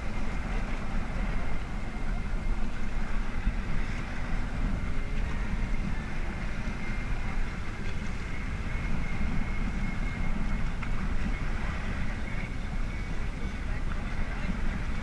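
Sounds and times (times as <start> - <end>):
engine low rumble: 0.0 - 15.0
faint high whine: 0.0 - 15.0.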